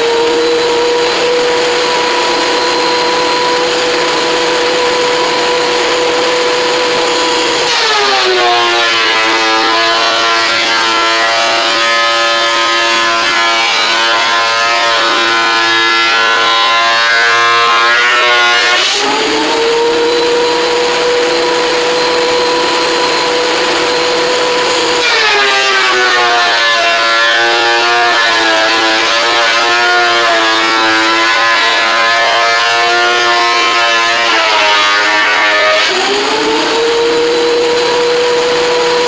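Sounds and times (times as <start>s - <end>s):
woodworking power tool whining: 0.0s - 39.0s.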